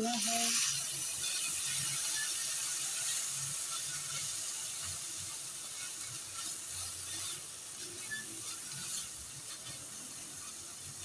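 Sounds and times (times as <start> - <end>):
chicken sizzling in a pan: 0.0 - 11.0
spatula scraping a pan: 0.5 - 11.0.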